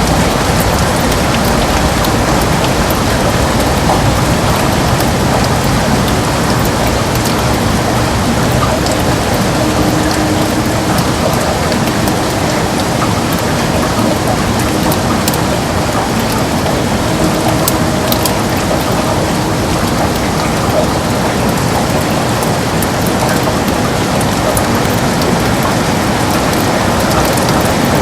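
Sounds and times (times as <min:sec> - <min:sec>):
heavy rain on a window: 0:00.0 - 0:28.0.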